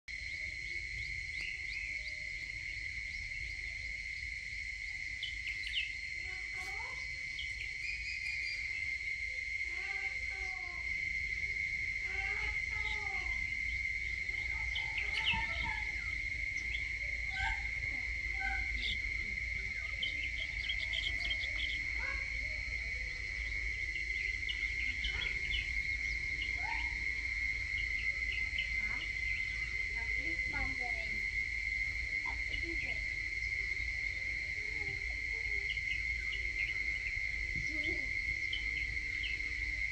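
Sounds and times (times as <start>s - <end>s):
birds calling and chirping: 0.1s - 39.9s
insect drone: 0.1s - 39.9s.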